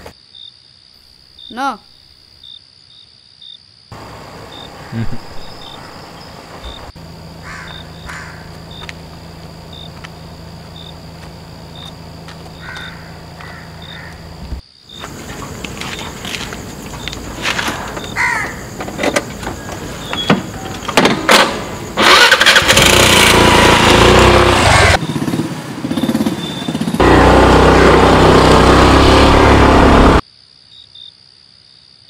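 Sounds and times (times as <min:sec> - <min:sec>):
crickets chirping: 0:00.0 - 0:22.7, 0:25.0 - 0:27.0, 0:30.2 - 0:32.0.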